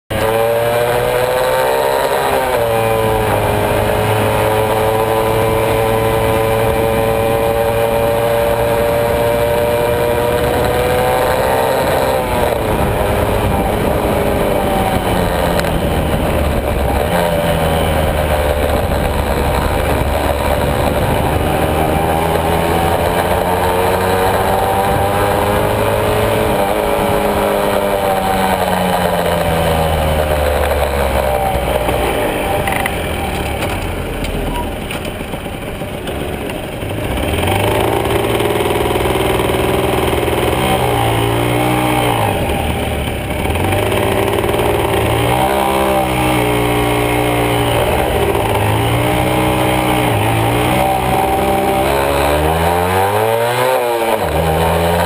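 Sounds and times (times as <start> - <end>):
two-stroke motorcycle engine: 0.0 - 55.0.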